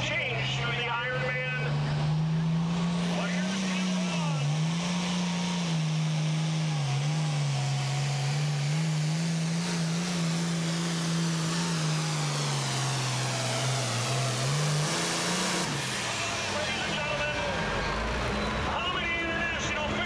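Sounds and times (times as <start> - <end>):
diesel tractor engine under load: 0.0 - 20.0.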